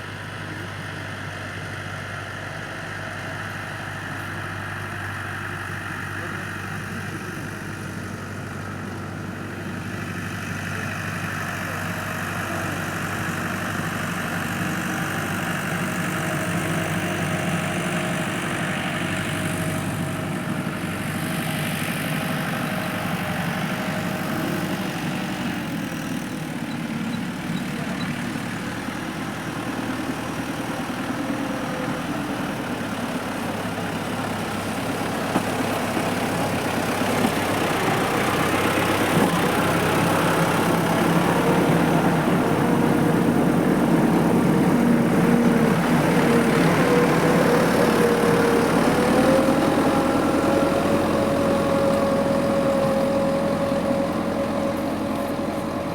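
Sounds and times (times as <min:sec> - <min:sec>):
tractor engine idling: 0:00.0 - 0:55.9.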